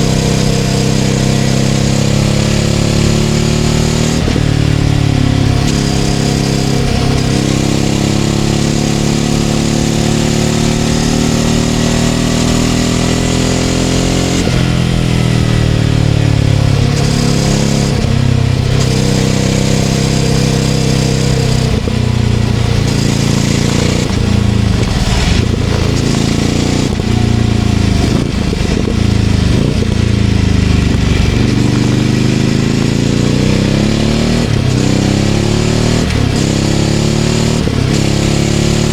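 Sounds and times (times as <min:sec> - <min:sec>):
motorcycle engine riding along: 0:00.0 - 0:38.9.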